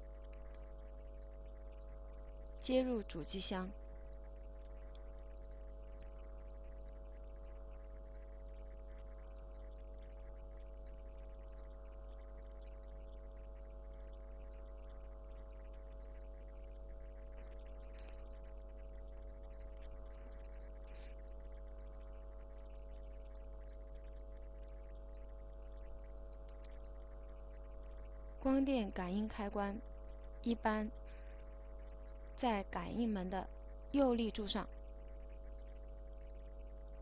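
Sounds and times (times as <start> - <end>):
faint high ticks: 0.0 - 37.0
low electrical hum: 0.0 - 37.0.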